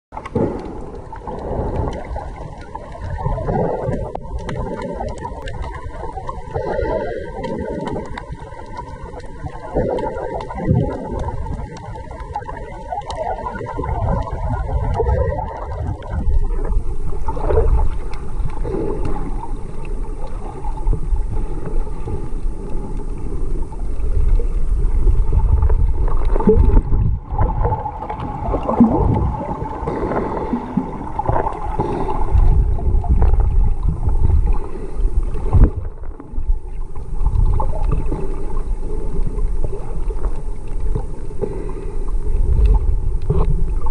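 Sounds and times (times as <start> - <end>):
underwater rumble and gurgling: 0.1 - 43.9.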